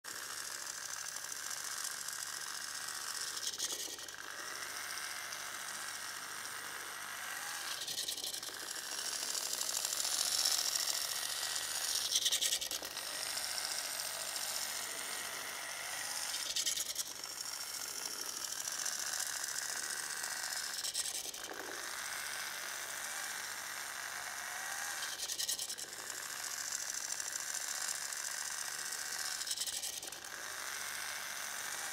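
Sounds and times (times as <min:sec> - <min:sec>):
servo motors whirring: 0:00.2 - 0:31.9.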